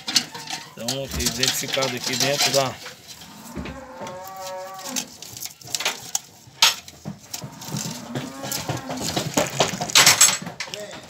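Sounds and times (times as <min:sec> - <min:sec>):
metal handles clinking and scraping: 0:00.0 - 0:11.0.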